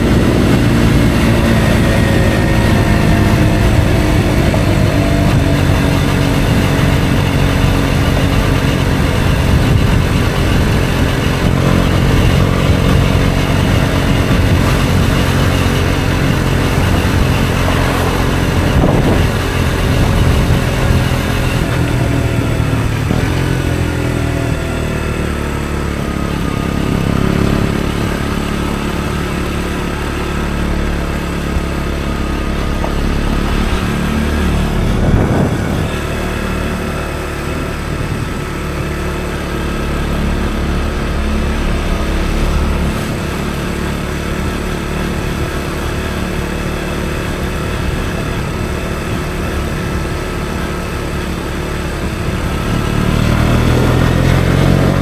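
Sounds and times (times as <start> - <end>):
motorcycle engine running: 0.0 - 55.0
rush of noise: 0.0 - 55.0.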